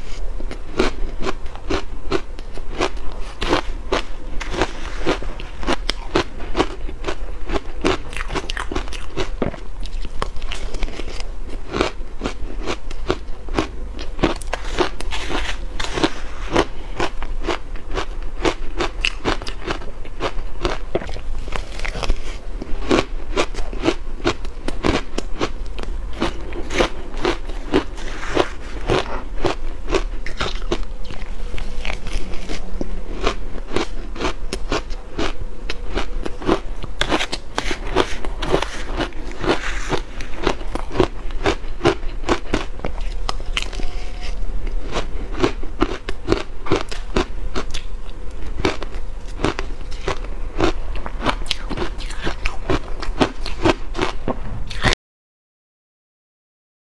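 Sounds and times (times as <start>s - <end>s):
chewing crunchy ice: 0.0s - 54.9s.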